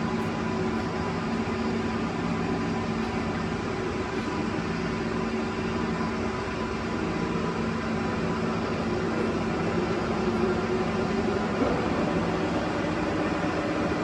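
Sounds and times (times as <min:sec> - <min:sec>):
lathe mechanical hum: 0:00.0 - 0:14.0.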